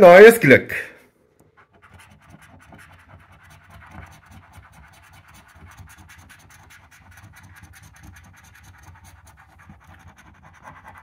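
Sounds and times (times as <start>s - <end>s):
coin scratching scratch card: 1.4s - 11.0s.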